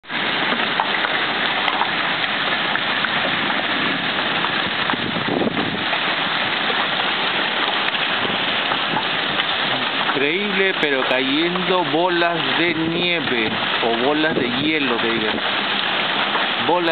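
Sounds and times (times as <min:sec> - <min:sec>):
heavy rain downpour: 0:00.0 - 0:16.9
hailstones ticking: 0:00.1 - 0:16.9.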